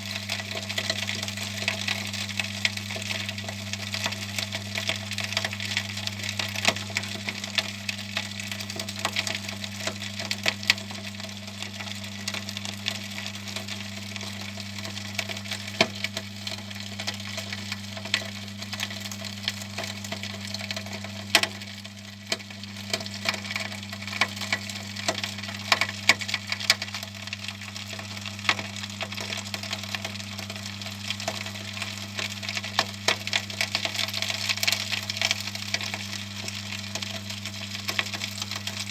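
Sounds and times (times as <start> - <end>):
coal crackling and clicking: 0.0 - 38.9.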